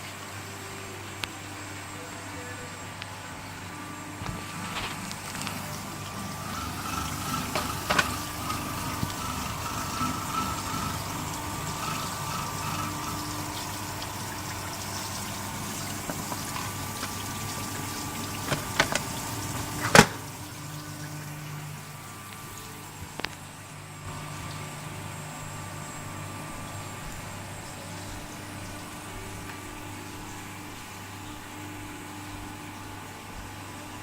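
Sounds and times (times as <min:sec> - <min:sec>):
grinding wheel wet grinding: 0:00.0 - 0:34.0.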